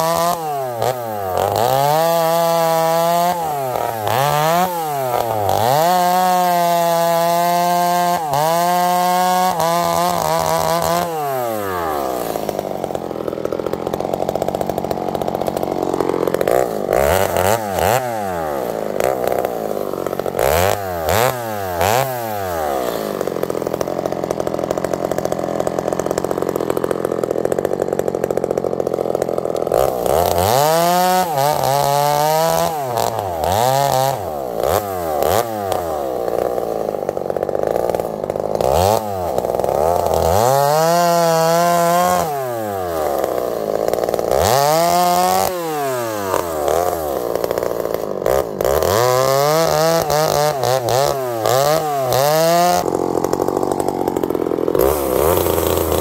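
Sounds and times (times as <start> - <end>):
chainsaw cutting and idling: 0.0 - 56.0.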